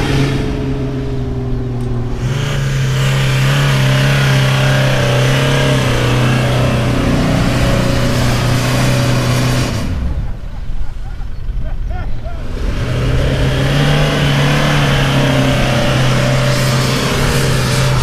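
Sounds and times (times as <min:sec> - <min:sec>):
pickup engine pulling under load: 0:00.0 - 0:11.6, 0:12.4 - 0:18.0.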